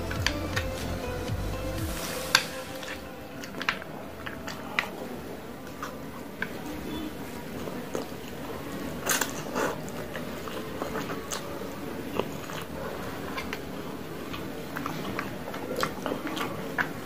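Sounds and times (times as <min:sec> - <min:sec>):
person slurping and chewing noodles: 0:01.9 - 0:17.0.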